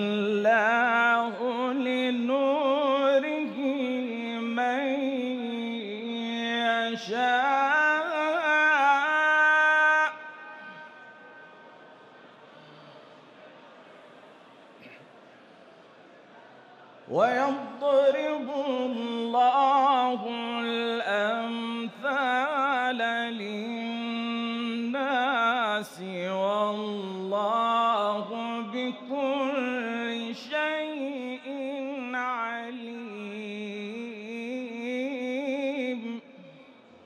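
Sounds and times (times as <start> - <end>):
man chanting melodically: 0.0 - 11.6, 17.1 - 36.8.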